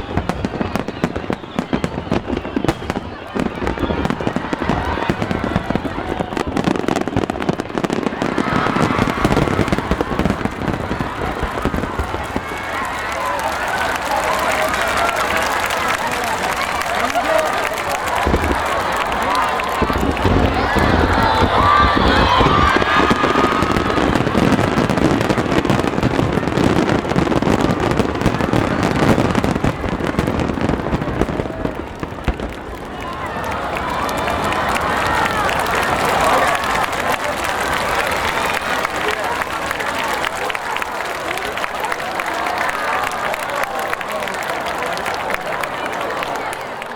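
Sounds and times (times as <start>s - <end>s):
firework crackling: 0.0s - 43.2s.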